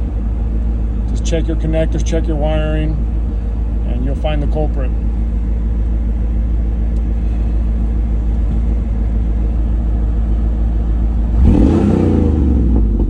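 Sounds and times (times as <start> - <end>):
car engine rumbling and accelerating: 0.0 - 13.0.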